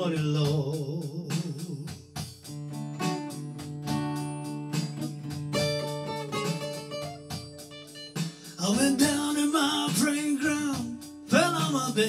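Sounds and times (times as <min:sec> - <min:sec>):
acoustic blues guitar: 0:00.0 - 0:12.0.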